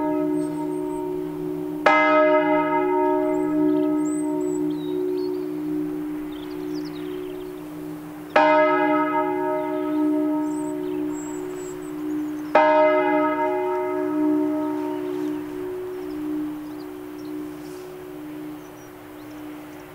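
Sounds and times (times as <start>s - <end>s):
church bell ringing: 0.0s - 19.9s
low hum of bells: 0.0s - 19.9s.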